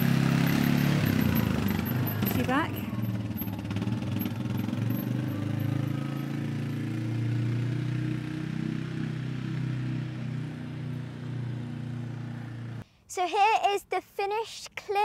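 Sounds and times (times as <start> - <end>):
quad bike engine running: 0.0 - 12.8.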